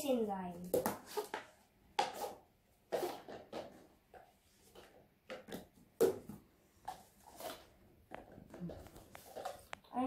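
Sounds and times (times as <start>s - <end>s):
plastic cups tapping and clacking: 0.6s - 10.0s.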